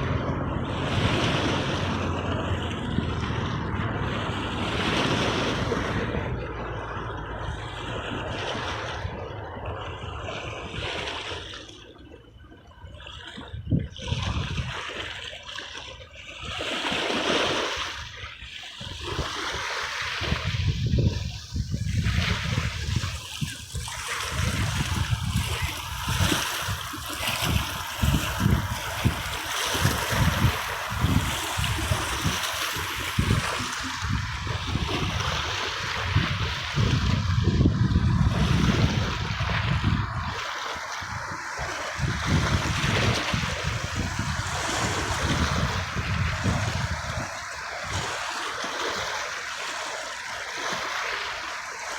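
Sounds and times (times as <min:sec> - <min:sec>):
sea waves splashing: 0:00.0 - 0:51.9
water trickling and gurgling: 0:00.0 - 0:51.9.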